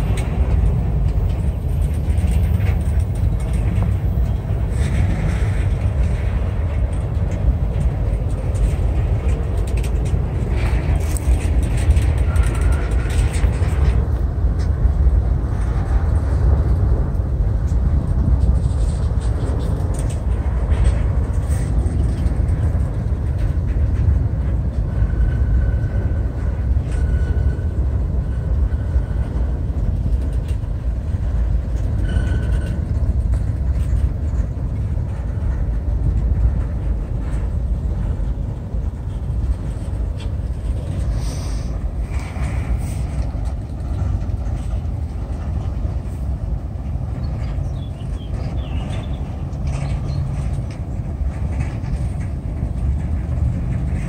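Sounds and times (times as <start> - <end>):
freight car clicks and clanks: 0.0 - 54.0
train wheels rumbling on rail: 0.0 - 54.0.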